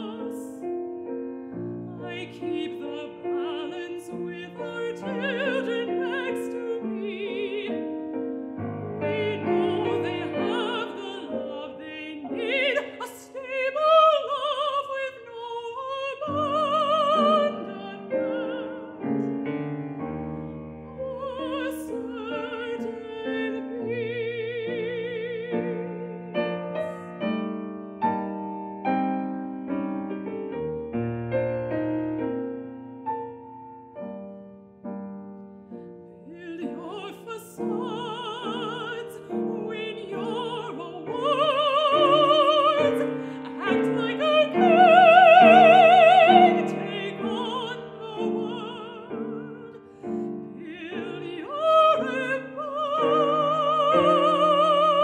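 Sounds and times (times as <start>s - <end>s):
woman singing opera: 0.0s - 19.4s, 20.8s - 27.5s, 36.1s - 55.0s
piano accompaniment: 0.0s - 55.0s.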